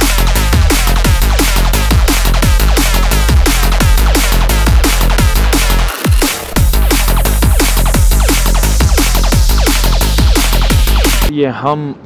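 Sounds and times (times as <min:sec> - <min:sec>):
electronic dance music: 0:00.0 - 0:11.3.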